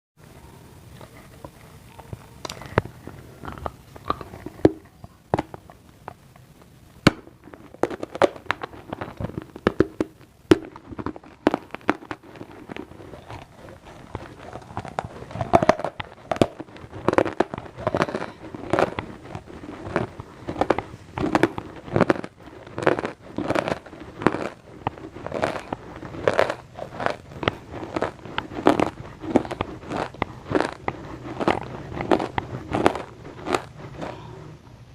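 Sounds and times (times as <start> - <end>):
crunching and chewing food: 0.3 - 34.6.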